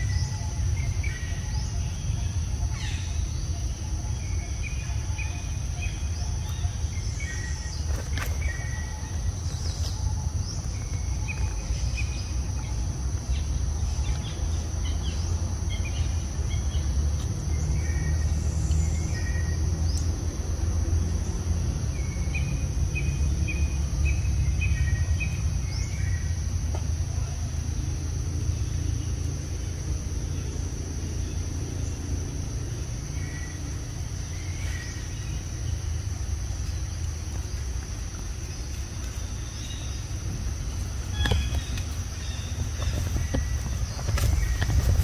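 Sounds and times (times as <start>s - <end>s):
high insect drone: 0.0s - 45.0s.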